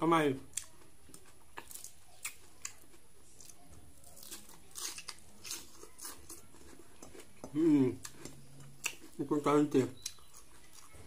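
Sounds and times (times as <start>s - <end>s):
person chewing: 0.5s - 11.0s.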